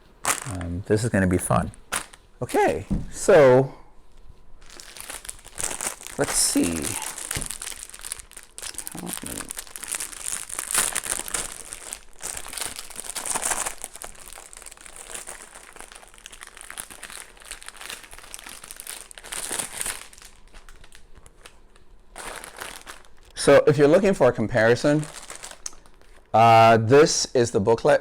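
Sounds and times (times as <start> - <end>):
plastic bags crinkling: 0.2 - 0.8, 1.5 - 2.9, 4.6 - 26.4.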